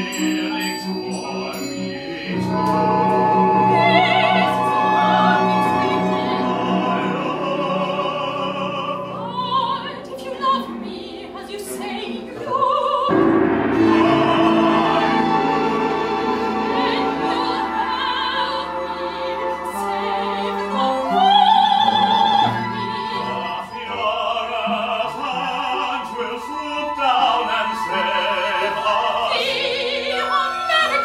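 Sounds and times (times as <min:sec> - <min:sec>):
chamber orchestra playing: 0:00.0 - 0:31.0
opera singer singing with vibrato: 0:00.0 - 0:31.0.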